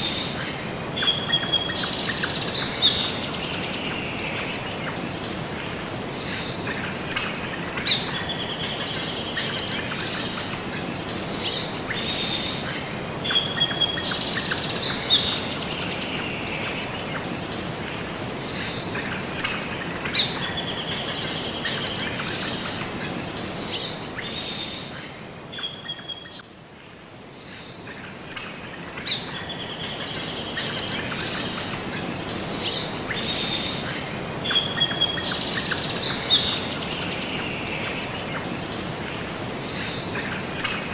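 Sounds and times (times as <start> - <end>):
outdoor ambience hiss: 0.0 - 40.9
birds chirping and singing: 1.0 - 40.9.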